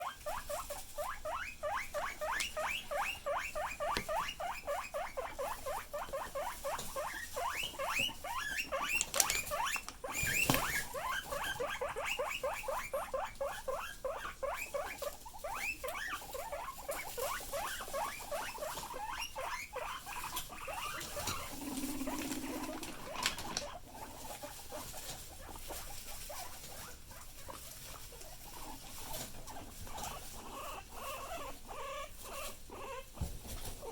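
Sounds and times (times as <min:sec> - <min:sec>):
guinea pigs squealing: 0:00.0 - 0:33.9.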